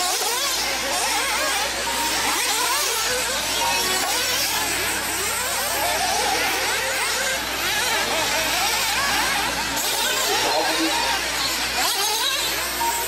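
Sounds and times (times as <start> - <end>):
rc buggy motors whining: 0.0 - 13.0.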